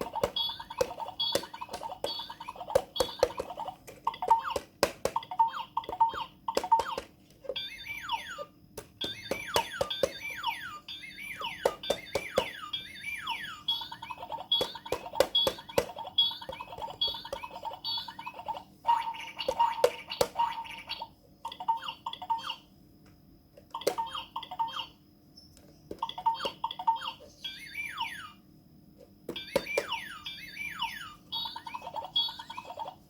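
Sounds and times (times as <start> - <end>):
toy falling chirps: 0.0 - 21.0, 23.8 - 28.4, 29.3 - 32.8.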